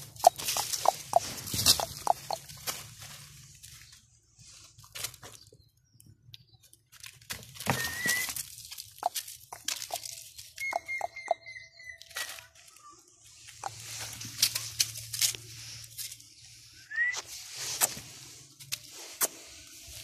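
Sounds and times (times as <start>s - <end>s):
dog paws scratching soil and leaves: 0.0s - 5.7s, 6.7s - 20.0s.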